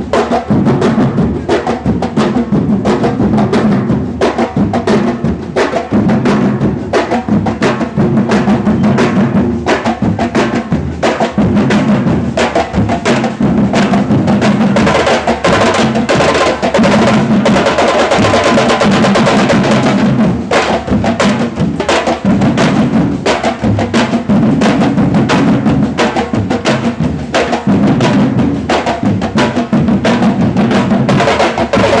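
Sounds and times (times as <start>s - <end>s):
samba drum group playing: 0.0s - 32.0s.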